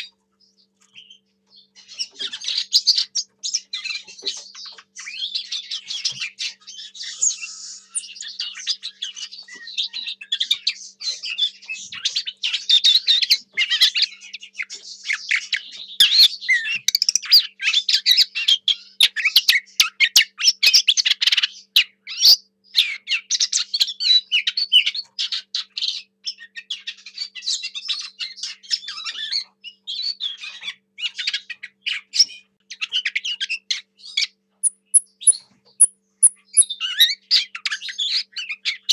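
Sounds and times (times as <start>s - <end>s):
bird singing rapid warble: 0.0s - 38.9s.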